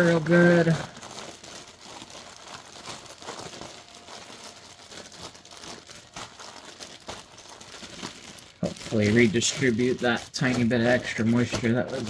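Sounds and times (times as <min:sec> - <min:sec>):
plastic bag crinkling and crunching: 0:00.0 - 0:12.0.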